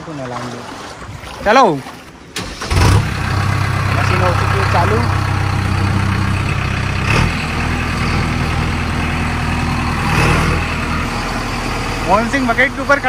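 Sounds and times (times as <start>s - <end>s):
backhoe diesel engine running: 2.4s - 13.0s.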